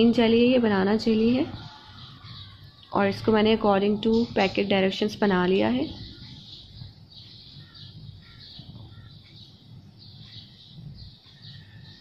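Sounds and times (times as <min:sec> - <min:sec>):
water boiling low rumble: 0:00.0 - 0:12.0
faint bird chirps: 0:01.0 - 0:12.0.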